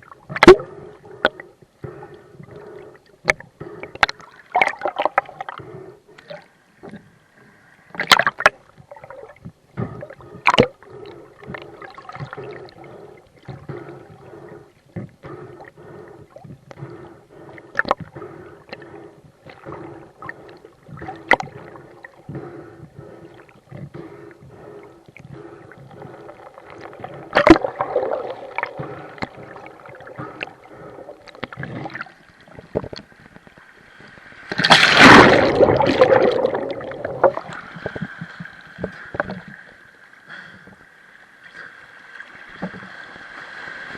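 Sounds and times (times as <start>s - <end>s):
sea water sloshing and gurgling: 0.0s - 43.9s.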